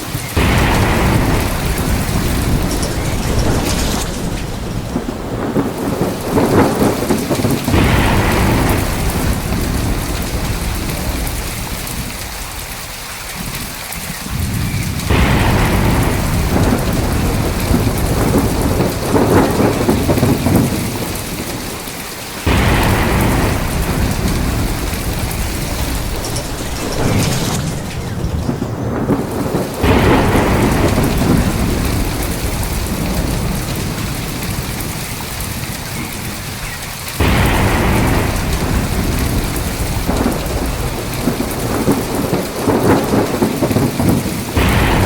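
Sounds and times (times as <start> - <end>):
heavy rain falling: 0.0 - 45.0
thunder rumbling: 0.0 - 45.0.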